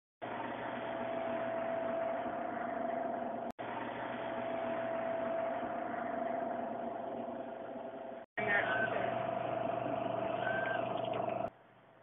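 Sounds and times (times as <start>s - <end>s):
vending machine humming: 0.2s - 11.6s.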